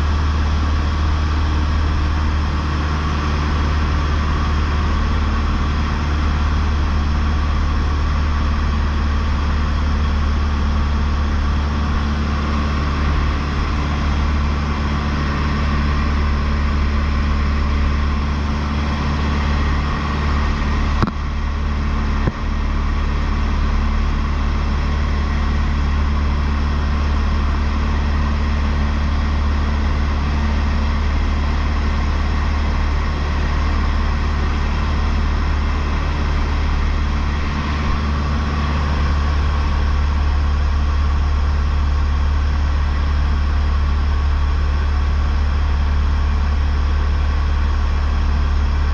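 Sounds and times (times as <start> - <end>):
airplane engine droning: 0.0 - 48.9.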